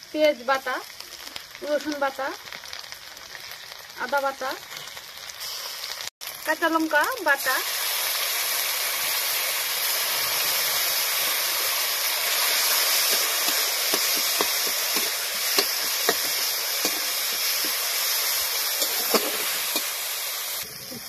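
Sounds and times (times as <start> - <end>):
pastes sizzling in hot oil: 0.0 - 21.0.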